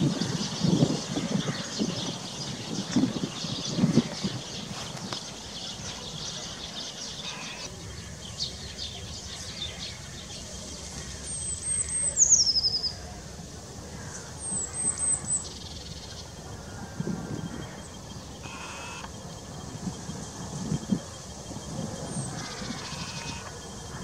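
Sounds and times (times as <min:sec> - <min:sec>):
songbird trilling: 0:00.1 - 0:10.4, 0:11.1 - 0:13.0, 0:14.1 - 0:24.0.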